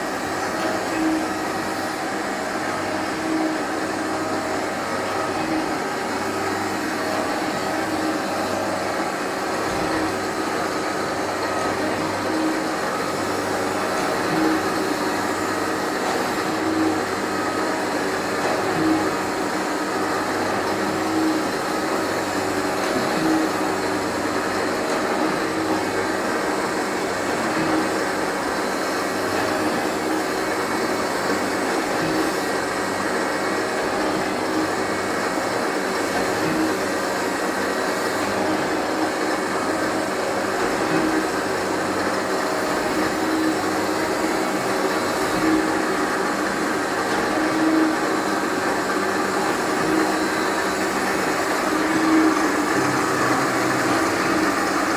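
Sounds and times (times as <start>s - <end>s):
grinding machine humming: 0.0s - 54.9s.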